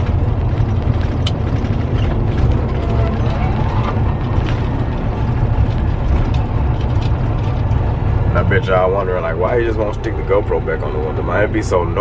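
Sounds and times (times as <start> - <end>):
cab rattling: 0.0 - 12.0
truck engine drone: 0.0 - 12.0.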